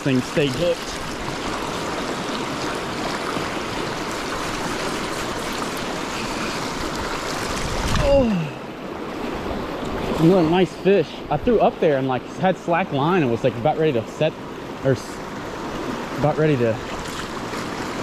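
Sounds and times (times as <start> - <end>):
river current rushing: 0.0 - 18.0.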